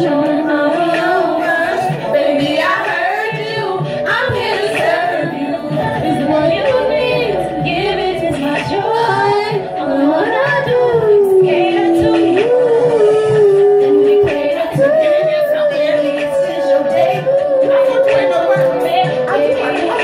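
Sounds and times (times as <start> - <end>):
women singing into microphones: 0.0 - 20.0.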